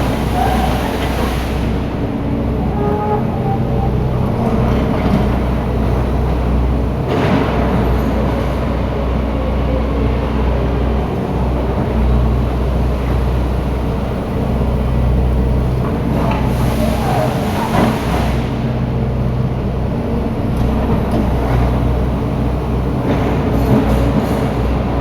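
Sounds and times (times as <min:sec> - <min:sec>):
heavy machinery engine running: 0:00.0 - 0:25.0.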